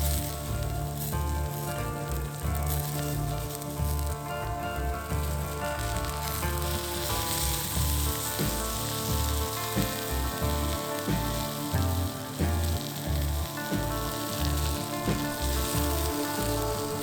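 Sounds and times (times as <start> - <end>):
music with pulsing bass: 0.0 - 17.0
oil sizzling in a frying pan: 0.0 - 17.0.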